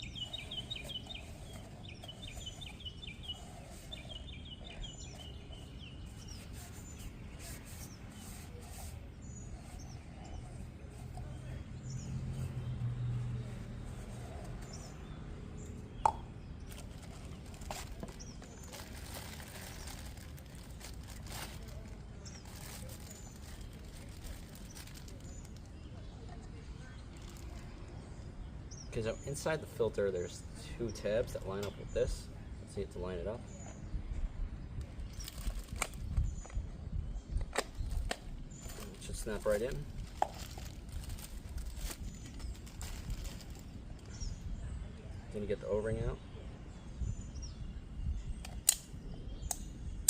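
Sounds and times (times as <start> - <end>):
birds chirping in trills: 0.0 - 50.0
outdoor background noise: 0.0 - 50.0.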